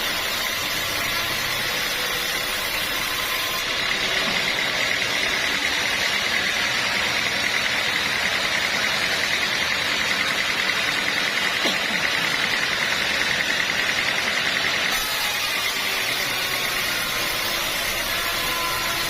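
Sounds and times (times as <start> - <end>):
sawmill machinery running: 0.0 - 19.0.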